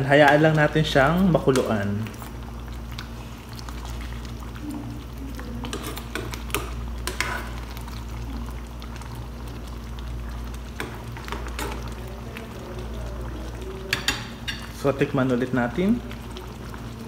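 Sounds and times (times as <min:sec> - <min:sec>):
sauce bubbles popping: 0:00.0 - 0:17.0.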